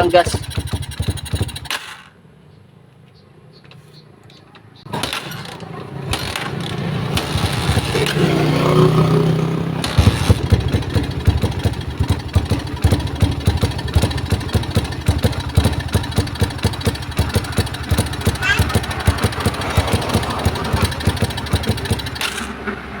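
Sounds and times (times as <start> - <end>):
motorcycle engine revving and idling: 0.0 - 2.2, 4.9 - 23.0.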